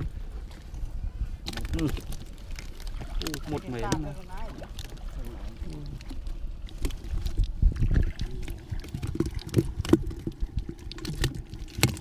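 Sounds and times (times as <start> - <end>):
low uneven rumble: 0.0 - 12.0
water sloshing and splashing: 0.0 - 12.0.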